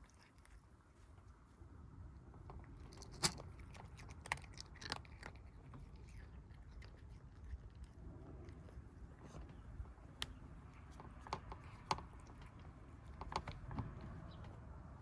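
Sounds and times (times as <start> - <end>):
kittens chewing food: 0.0 - 15.0.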